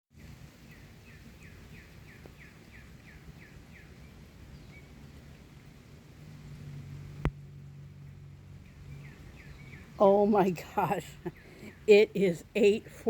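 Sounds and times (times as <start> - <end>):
songbird singing down-slurred notes: 0.1 - 5.4, 6.8 - 13.0.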